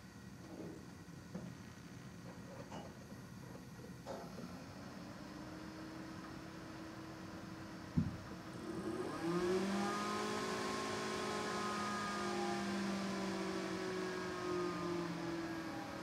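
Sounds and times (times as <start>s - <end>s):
computer fans whirring: 3.2s - 16.0s.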